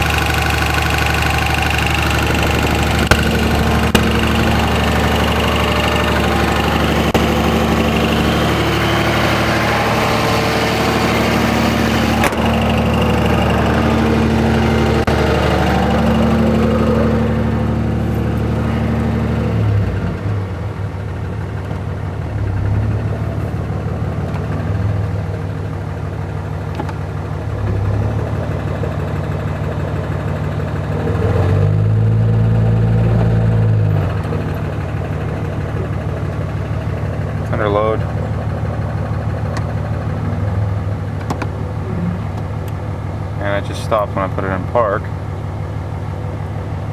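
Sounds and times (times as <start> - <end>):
diesel engine running under load: 0.0 - 46.9
engine knocking: 0.0 - 46.9.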